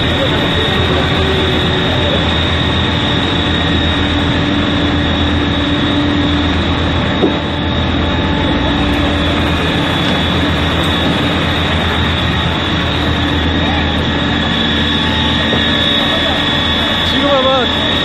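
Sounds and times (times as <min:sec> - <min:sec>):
faint hum: 0:00.0 - 0:18.0
firefighting equipment roaring: 0:00.0 - 0:18.0
high steady whine: 0:00.0 - 0:18.0.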